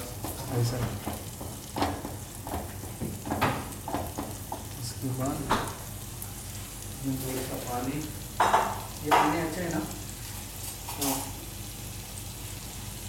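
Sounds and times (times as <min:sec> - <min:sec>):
paste sizzling in oil: 0:00.0 - 0:13.0.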